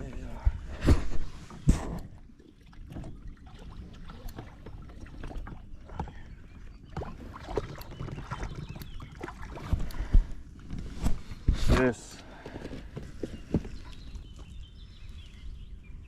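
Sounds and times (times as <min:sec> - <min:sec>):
water lapping and splashing: 0:00.0 - 0:15.6.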